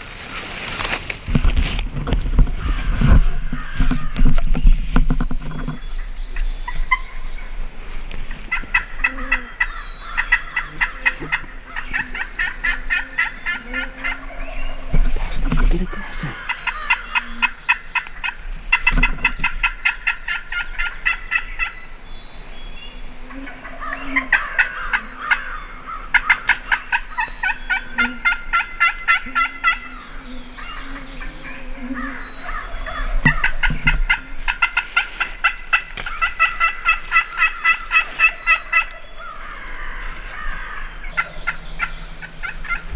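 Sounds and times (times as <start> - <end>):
wild turkeys calling: 2.4 - 42.9.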